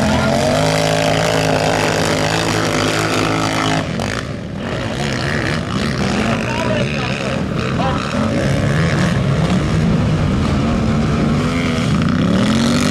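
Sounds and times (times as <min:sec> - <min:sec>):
quad engines revving: 0:00.0 - 0:12.9.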